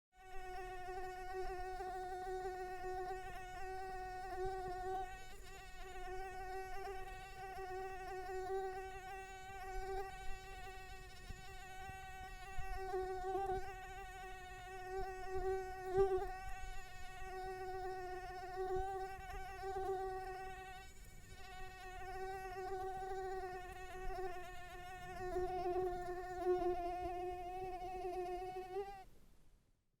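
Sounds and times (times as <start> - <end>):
mosquito buzzing: 0.2 - 29.1.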